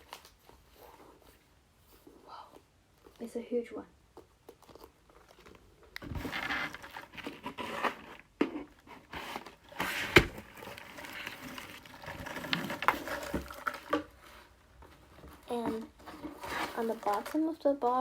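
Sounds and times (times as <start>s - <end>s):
packaging rustling and crinkling: 0.0s - 2.1s, 4.2s - 18.0s.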